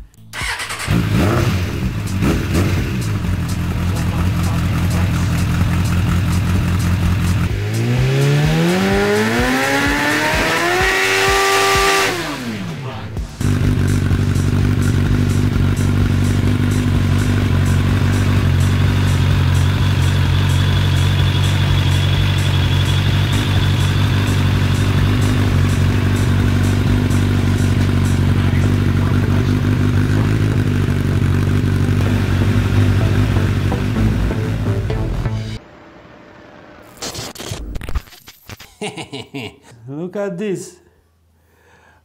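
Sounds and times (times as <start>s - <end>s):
motorcycle engine idling: 0.3s - 35.1s.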